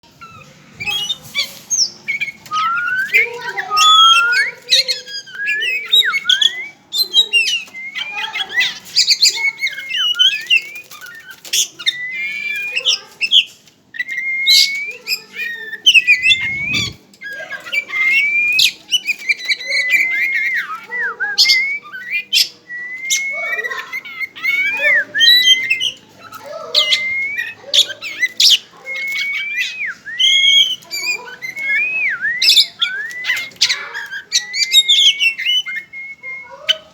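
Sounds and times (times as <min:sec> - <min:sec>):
bird singing whistled song: 0:00.8 - 0:36.9.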